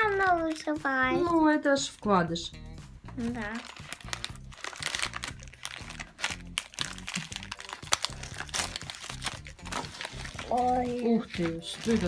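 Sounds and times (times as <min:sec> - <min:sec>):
plastic and foil packaging crinkling: 0:00.0 - 0:00.8, 0:03.2 - 0:12.0
background music: 0:00.0 - 0:12.0.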